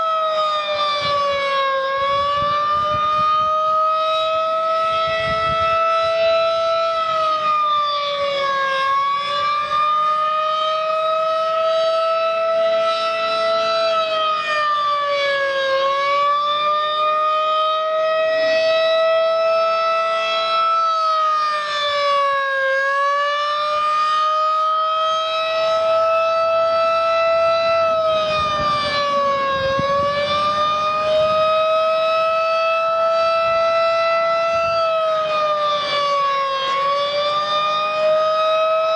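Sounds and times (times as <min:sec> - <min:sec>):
rotating warning siren tone: 0:00.0 - 0:38.9.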